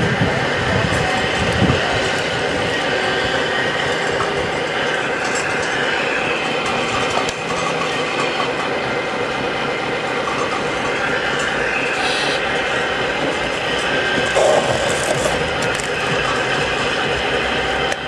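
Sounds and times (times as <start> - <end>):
electric motors and gears whirring: 0.0 - 18.0
thin whining tones: 0.2 - 18.0.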